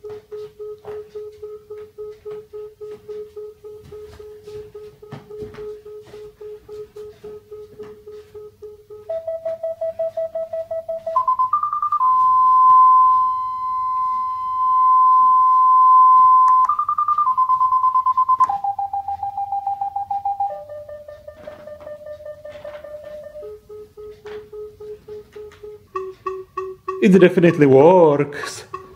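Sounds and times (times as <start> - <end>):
parking sensor warning beeps: 0.0 - 28.9.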